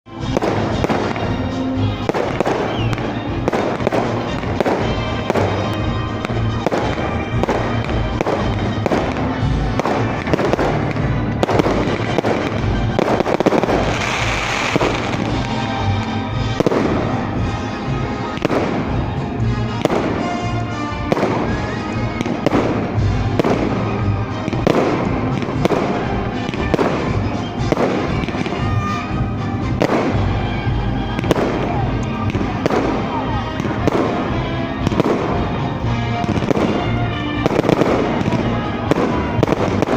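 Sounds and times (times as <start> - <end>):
music playing: 0.0 - 39.9
fireworks shells bursting: 0.1 - 39.9.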